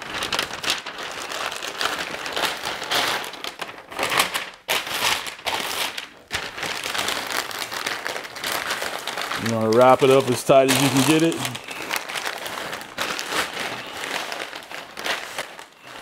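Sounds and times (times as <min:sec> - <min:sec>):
paper crinkling and rustling: 0:00.0 - 0:16.0.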